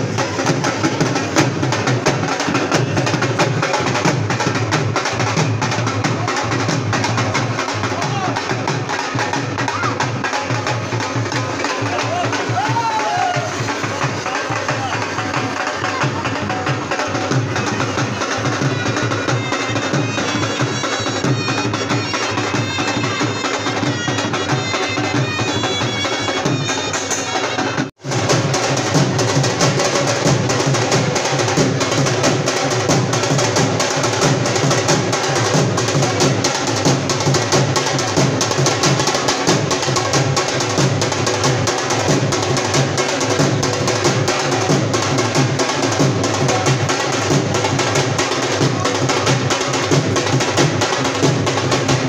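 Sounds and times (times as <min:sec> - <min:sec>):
loud music with fast drumming: 0:00.0 - 0:52.0.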